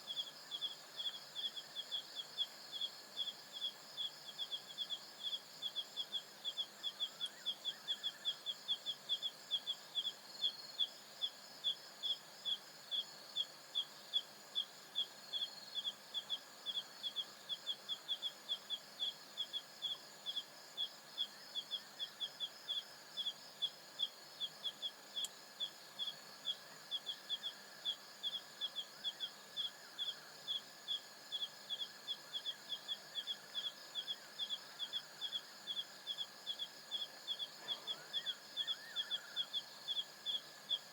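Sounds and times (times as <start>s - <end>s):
night insects trilling: 0.0s - 40.9s.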